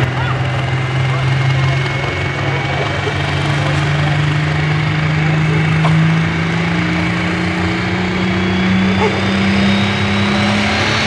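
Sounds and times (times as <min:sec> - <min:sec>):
diesel tractor engine running loud: 0:00.0 - 0:11.0.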